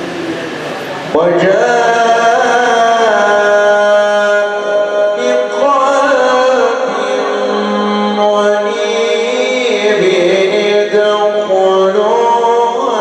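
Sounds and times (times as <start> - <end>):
man reciting melodically: 1.1 - 13.0.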